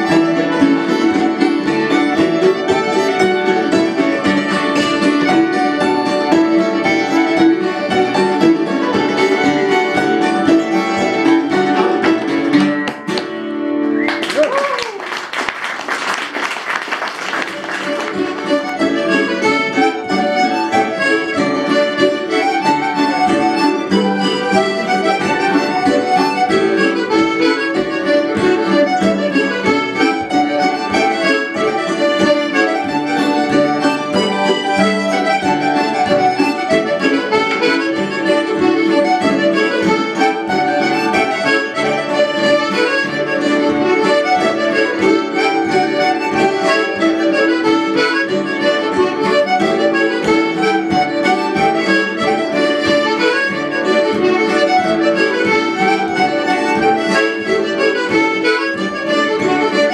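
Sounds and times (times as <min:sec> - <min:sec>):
button accordion melody: 0:00.0 - 0:14.2, 0:16.6 - 0:59.9
acoustic folk band playing: 0:00.0 - 0:59.9.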